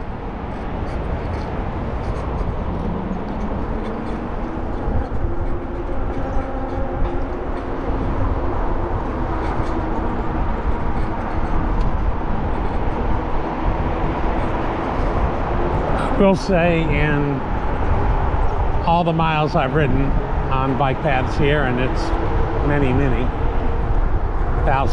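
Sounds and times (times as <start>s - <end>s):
bicycle tyre rumble: 0.0s - 24.9s
faint humming tones: 0.0s - 24.9s
wind on microphone: 0.0s - 24.9s.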